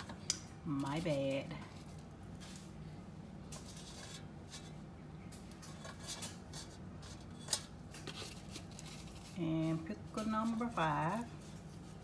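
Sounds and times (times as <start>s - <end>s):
low steady hum: 0.0s - 12.0s
rustling and scraping in basket: 0.7s - 12.0s.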